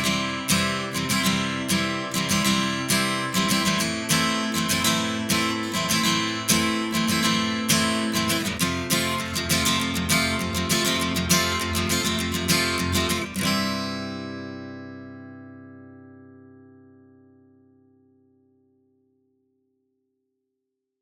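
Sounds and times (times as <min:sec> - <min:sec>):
acoustic guitar strumming chords: 0:00.0 - 0:18.9.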